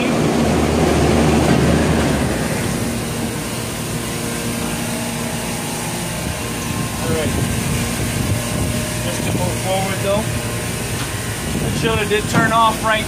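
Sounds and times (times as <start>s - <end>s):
compressors and condenser fans droning: 0.0s - 13.0s
deep low hum: 0.0s - 13.0s.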